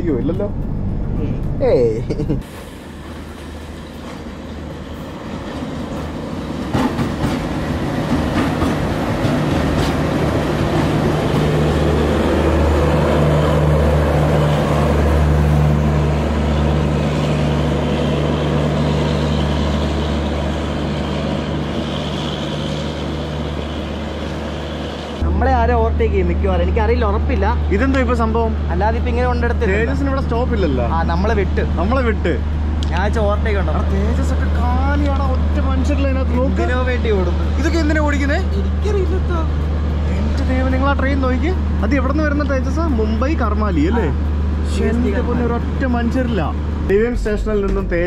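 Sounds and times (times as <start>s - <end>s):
rumble of train coaches: 0.0s - 48.0s
train engine hum: 0.0s - 48.0s.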